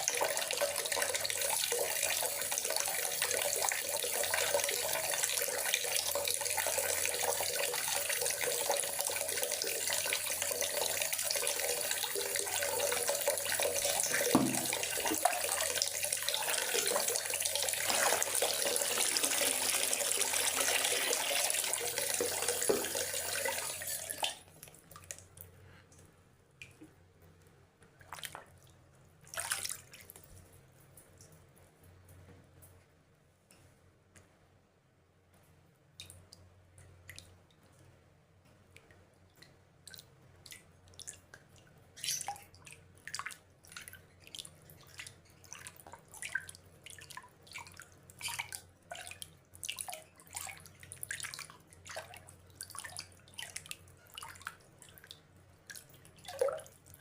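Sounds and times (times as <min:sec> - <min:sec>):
water drips: 0:00.0 - 0:27.0, 0:36.0 - 0:37.7, 0:38.7 - 0:57.0.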